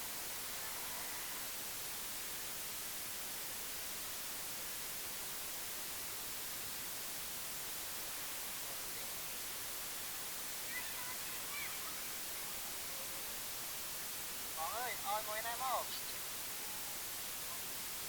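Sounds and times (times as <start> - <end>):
steady static hiss: 0.0 - 18.0.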